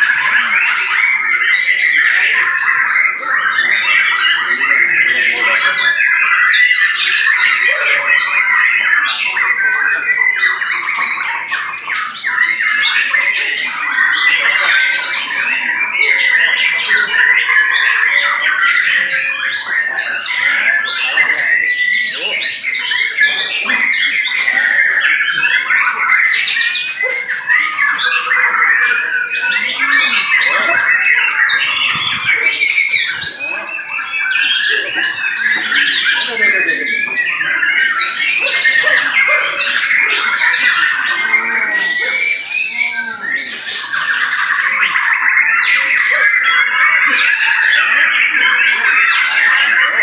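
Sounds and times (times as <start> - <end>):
birds harsh chattering: 0.0 - 50.0
birds whistling songs: 0.0 - 50.0.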